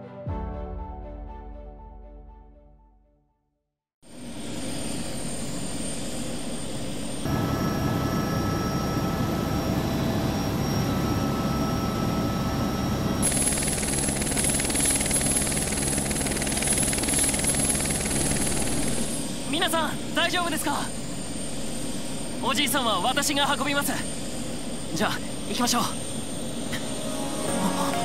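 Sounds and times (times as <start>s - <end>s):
helicopter rotor and engine: 4.0s - 27.5s.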